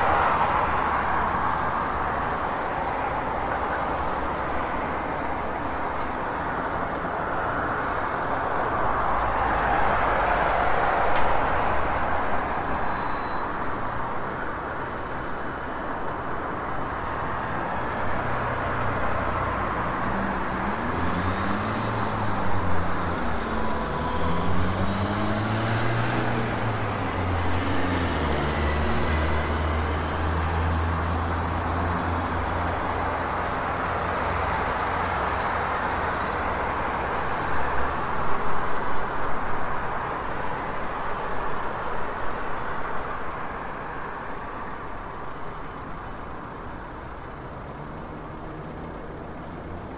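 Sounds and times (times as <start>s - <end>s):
cars passing and idling: 0.0s - 49.9s.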